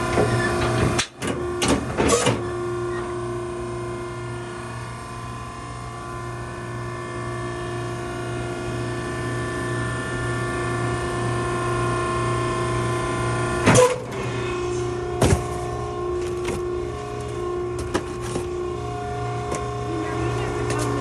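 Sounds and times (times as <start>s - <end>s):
hydraulic power unit whining: 0.0s - 21.0s.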